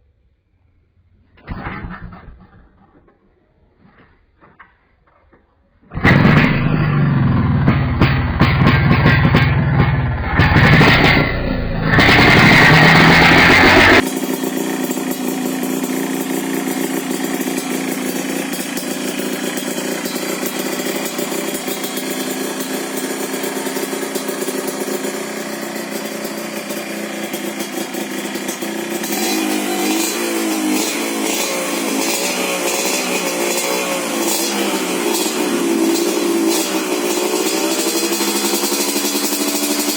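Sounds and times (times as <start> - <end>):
two-stroke motorcycle engine revving: 5.9 - 39.9.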